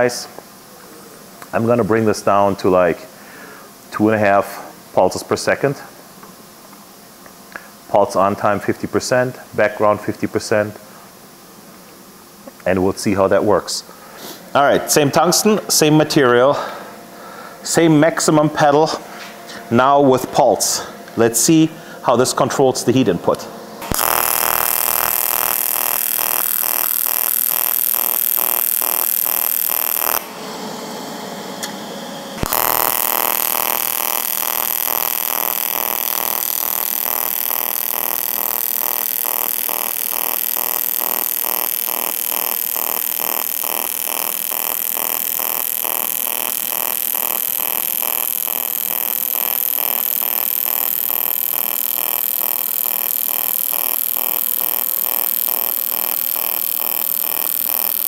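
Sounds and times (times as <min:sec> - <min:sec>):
welding arc buzzing: 0:00.0 - 0:05.9, 0:14.4 - 0:58.0.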